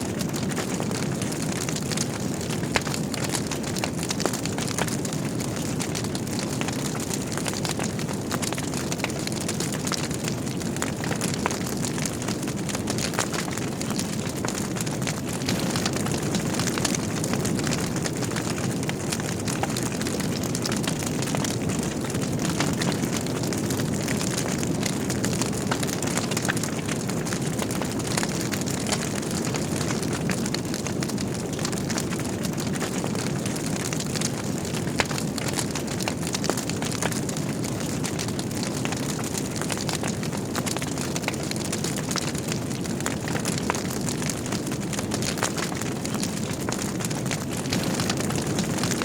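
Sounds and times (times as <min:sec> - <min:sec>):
wood fire crackling and popping: 0:00.0 - 0:49.0
fire flames rushing: 0:00.1 - 0:49.0.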